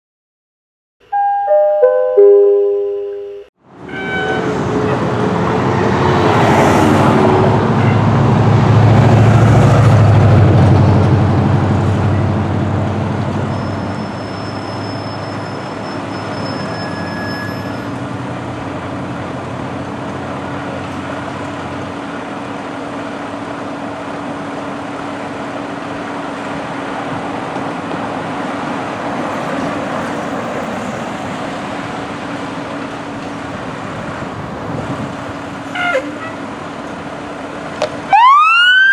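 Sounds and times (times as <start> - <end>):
traffic rumble: 3.6 - 38.8
fire engine diesel engine pulling away: 3.7 - 38.2.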